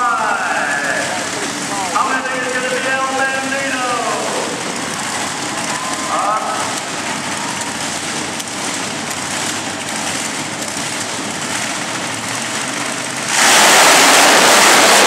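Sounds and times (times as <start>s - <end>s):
truck engine revving hard: 0.0s - 15.0s
truck engines rumbling: 0.0s - 15.0s.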